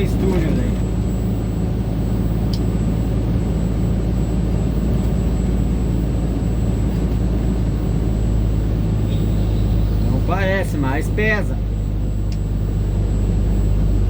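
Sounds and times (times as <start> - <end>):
truck diesel engine droning: 0.0 - 14.0.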